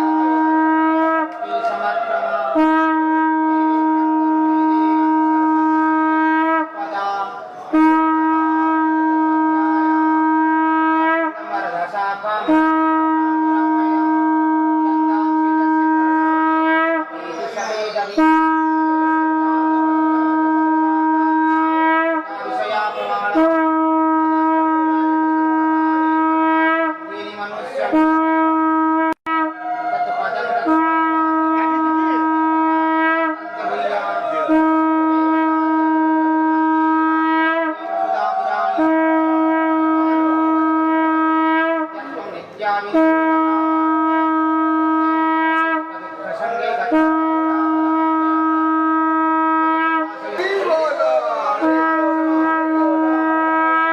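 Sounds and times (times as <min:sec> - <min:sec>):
conch shell blasts: 0:00.0 - 0:11.6, 0:12.4 - 0:17.4, 0:18.1 - 0:42.2, 0:42.9 - 0:53.9.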